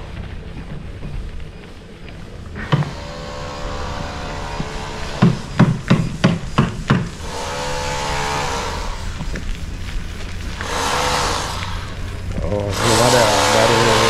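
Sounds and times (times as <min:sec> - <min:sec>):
steady pitched hum: 0:00.0 - 0:14.0.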